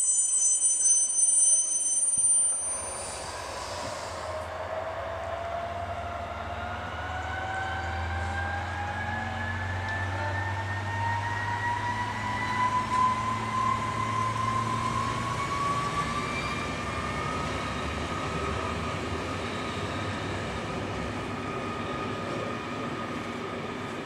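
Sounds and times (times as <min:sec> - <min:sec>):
diesel train whine: 0:00.0 - 0:24.0
train engine and rolling noise: 0:00.0 - 0:24.0.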